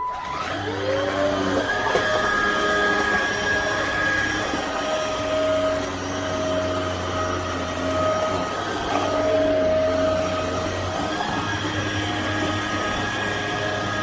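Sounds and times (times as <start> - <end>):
stick vacuum cleaner running: 0.0 - 14.0.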